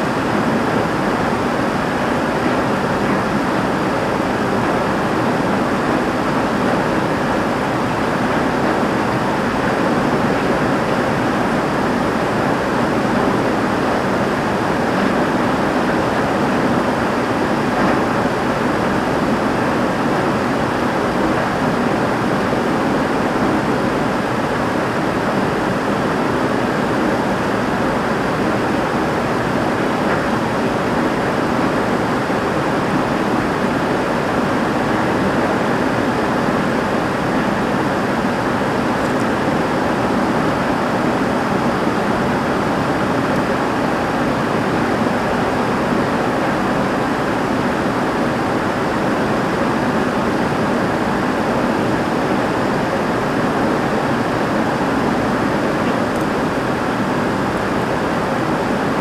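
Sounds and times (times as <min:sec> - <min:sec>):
heavy rain drumming on roof: 0:00.0 - 0:59.0.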